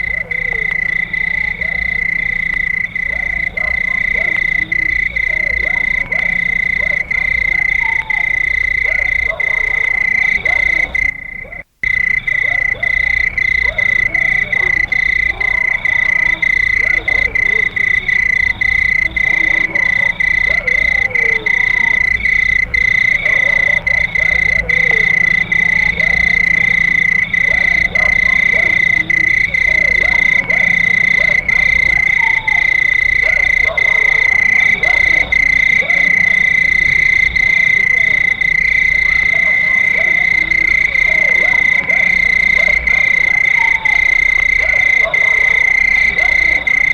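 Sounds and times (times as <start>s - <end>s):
crickets chirping: 0.0s - 46.9s
wavering animal calls: 0.0s - 46.9s.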